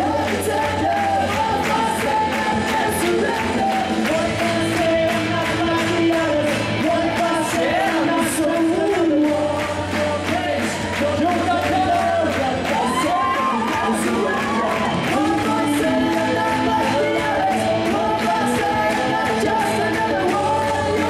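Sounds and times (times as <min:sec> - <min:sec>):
driving percussive beat: 0:00.0 - 0:21.0
men singing rock song in harmony: 0:00.0 - 0:21.0.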